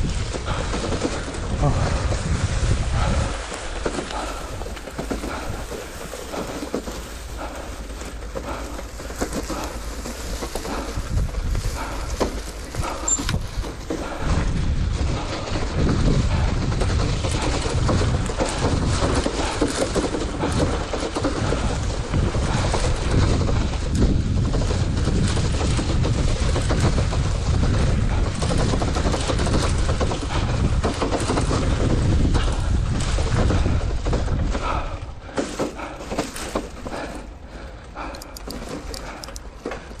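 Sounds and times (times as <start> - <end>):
wire basket and frame shaking: 0.0 - 34.8
bicycle rattling over bumpy track: 0.0 - 40.0.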